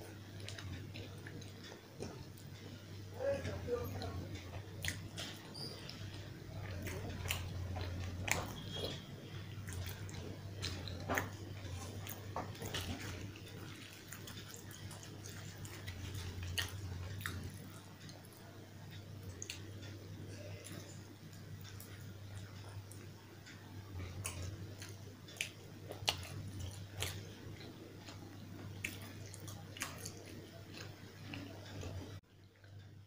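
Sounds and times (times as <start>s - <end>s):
steady low hum: 0.0s - 33.0s
mouth chewing clicks and smacks: 0.1s - 2.7s, 3.7s - 32.8s.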